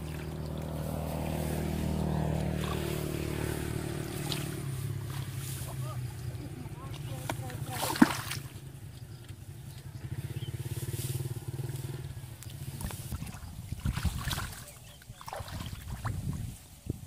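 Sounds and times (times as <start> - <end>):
splashing in muddy water: 0.0 - 16.7
small engine pulsing hum: 0.0 - 17.0.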